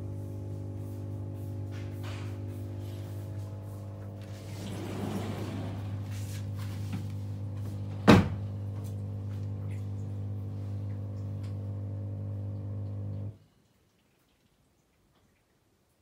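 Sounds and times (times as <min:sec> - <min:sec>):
dishwasher humming: 0:00.0 - 0:13.4.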